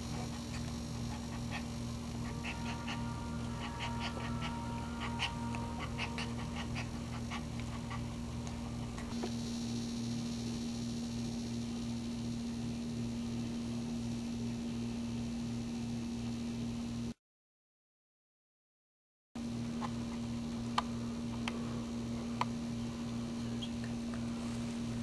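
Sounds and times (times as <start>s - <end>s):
steady electrical hum: 0.0s - 17.2s, 19.4s - 25.0s.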